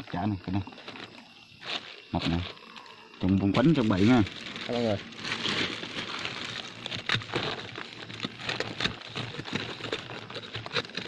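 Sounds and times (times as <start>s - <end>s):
bee nest crackling and scraping: 0.0s - 11.0s.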